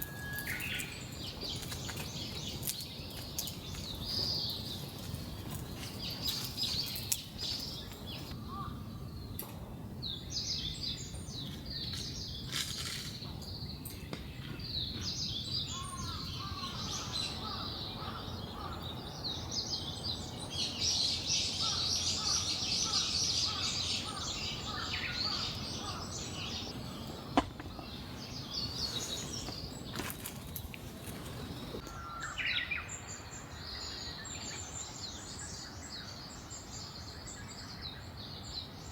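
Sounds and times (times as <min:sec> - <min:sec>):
wild birds chirping: 0:00.0 - 0:38.9.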